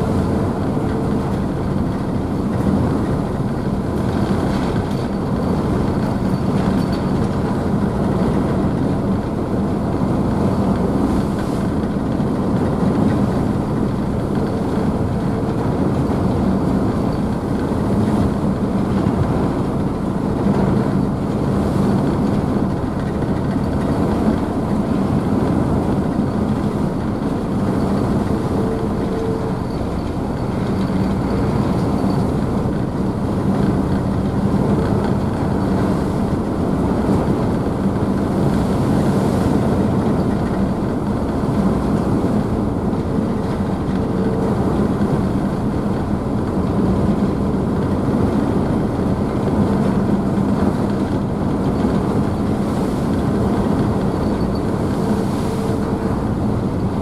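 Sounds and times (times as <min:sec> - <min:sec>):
diesel engines humming: 0:00.0 - 0:57.0
propeller wake rushing: 0:00.0 - 0:57.0.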